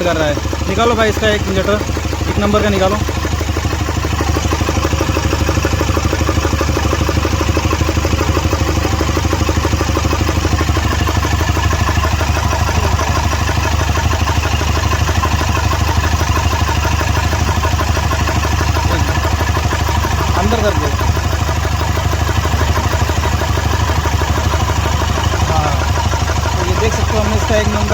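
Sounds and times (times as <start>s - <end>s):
misfiring diesel engine idling: 0.0s - 27.9s.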